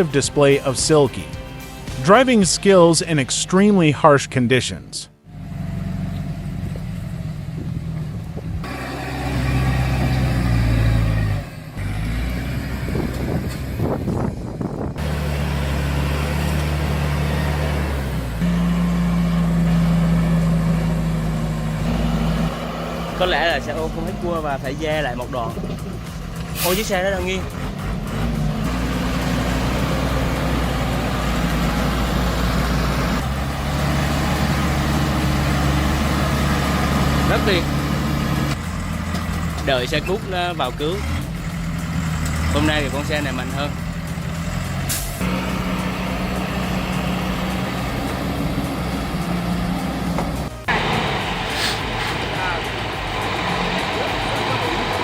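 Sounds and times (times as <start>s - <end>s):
truck engine drone: 0.0s - 55.0s.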